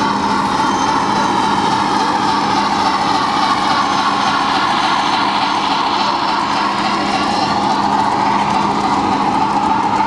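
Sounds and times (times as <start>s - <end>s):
model train running: 0.0s - 10.0s.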